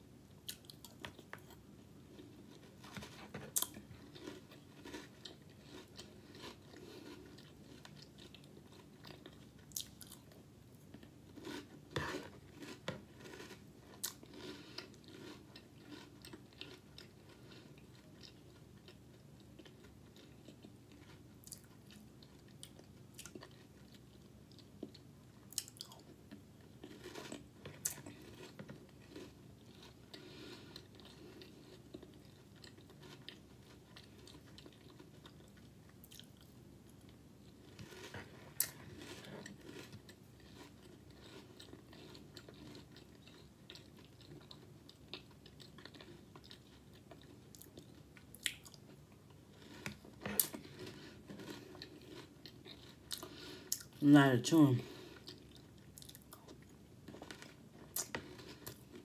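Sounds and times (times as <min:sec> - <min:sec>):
chewing and crunching cereal: 0:00.3 - 0:59.0.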